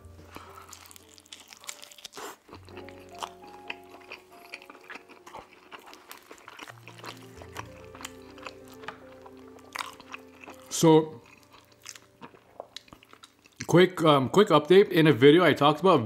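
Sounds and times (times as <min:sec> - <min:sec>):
person chewing pizza: 0:00.0 - 0:13.7
soft background music: 0:00.0 - 0:16.0.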